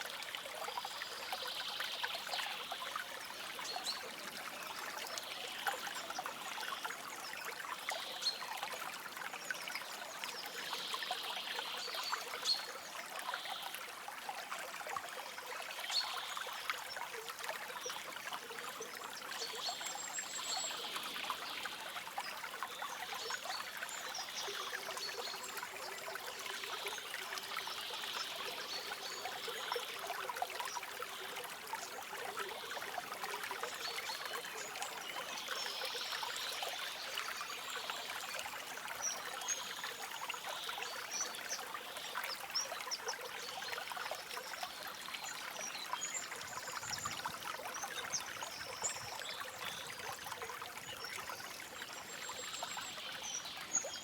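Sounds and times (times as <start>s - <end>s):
stream trickling and splashing: 0.0s - 54.0s.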